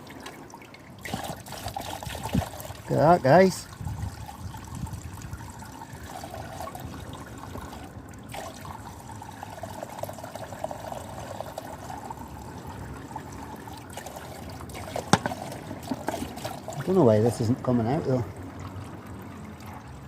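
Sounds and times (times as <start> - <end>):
oil pouring into a basin: 1.0 - 17.4.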